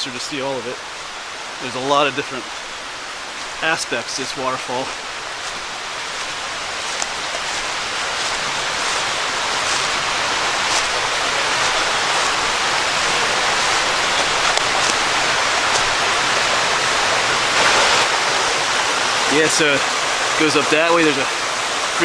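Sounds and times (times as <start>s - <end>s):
waterfall rushing water: 0.0s - 22.0s.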